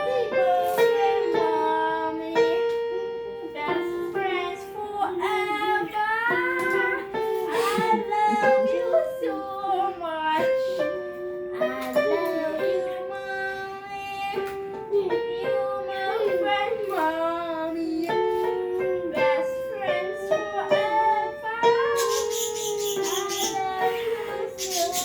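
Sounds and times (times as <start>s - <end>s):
child singing: 0.0s - 25.0s.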